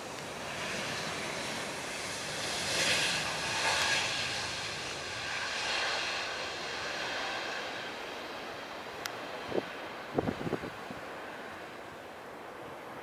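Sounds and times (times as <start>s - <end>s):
jet engines at takeoff: 0.0s - 13.0s.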